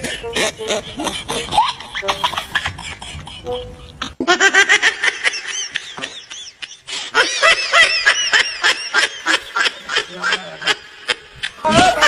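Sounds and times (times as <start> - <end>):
person laughing hard: 0.0 - 12.0.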